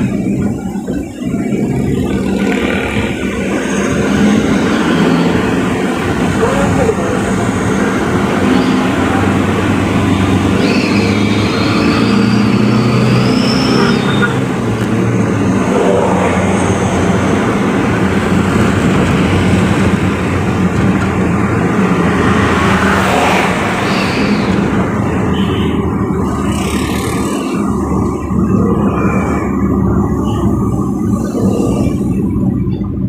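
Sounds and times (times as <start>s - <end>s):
road noise: 0.0s - 33.0s
vehicle engine drone: 0.0s - 33.0s.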